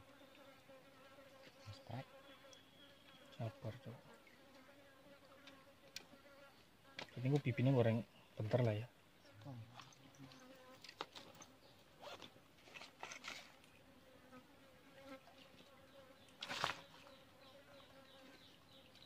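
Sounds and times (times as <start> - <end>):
insects buzzing: 0.0 - 12.2, 12.8 - 19.0.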